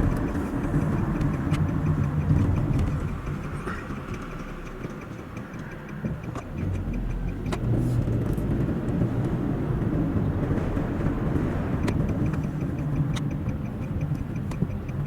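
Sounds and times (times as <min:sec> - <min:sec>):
car engine while driving: 0:00.0 - 0:15.0
road noise: 0:00.0 - 0:15.0.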